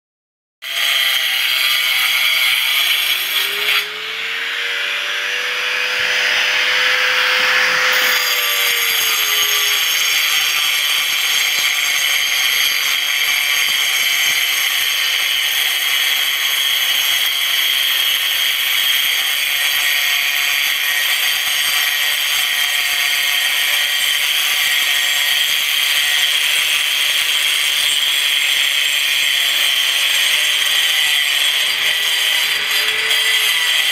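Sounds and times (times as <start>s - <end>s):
angle grinder cutting grout: 0.6s - 33.9s.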